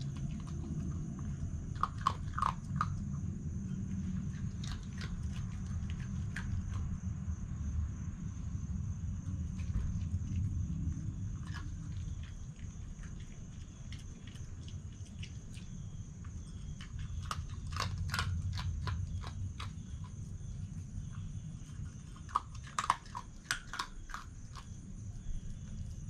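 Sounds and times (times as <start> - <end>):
fox crunching food: 0.0 - 7.4, 8.8 - 26.0
steady low rumble: 0.0 - 26.0.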